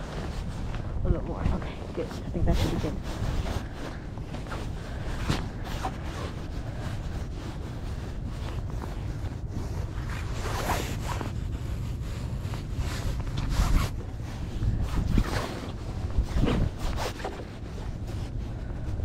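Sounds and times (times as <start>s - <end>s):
microphone handling rustling: 0.0s - 19.0s
wind rumble: 0.0s - 19.0s.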